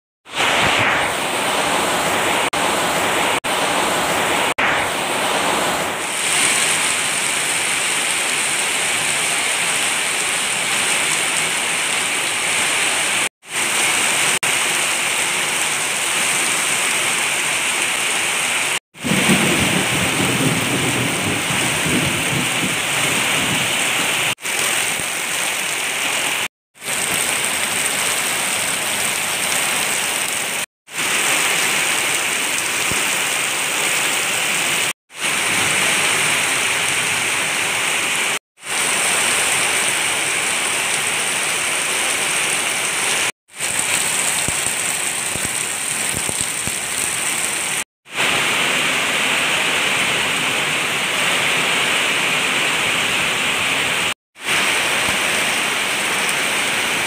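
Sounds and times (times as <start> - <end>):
heavy rain on plants and ground: 0.2 - 57.0.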